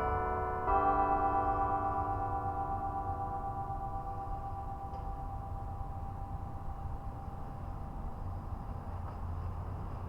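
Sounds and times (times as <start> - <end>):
tower bell hum: 0.0 - 8.5.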